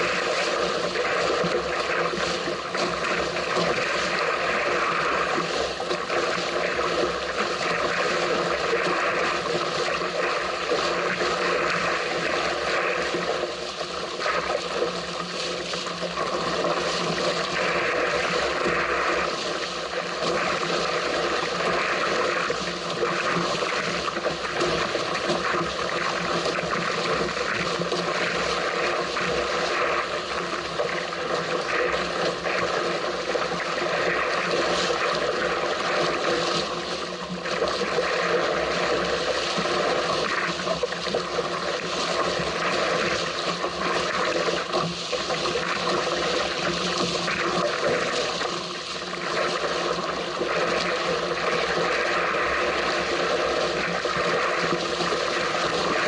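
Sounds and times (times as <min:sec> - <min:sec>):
water splashing past hull: 0:00.0 - 0:56.0.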